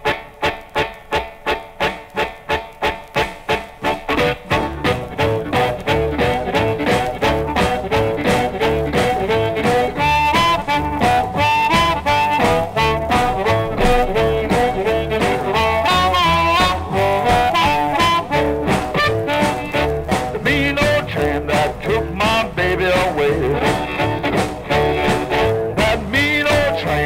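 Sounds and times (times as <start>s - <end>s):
harmonica melody: 0.0s - 27.0s
shuffle beat on drums: 2.8s - 27.0s
bass line: 3.7s - 27.0s.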